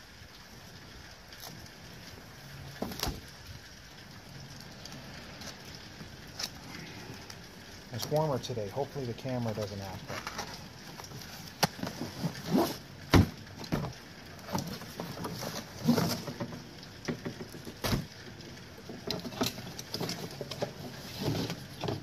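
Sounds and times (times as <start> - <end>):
plastic and cardboard rustling: 0.6 - 3.4, 4.7 - 22.0.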